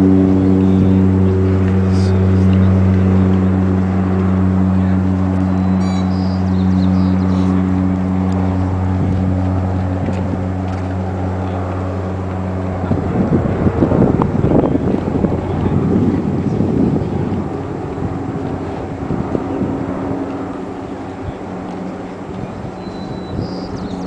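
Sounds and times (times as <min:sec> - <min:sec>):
propeller engine drone: 0:00.0 - 0:24.0.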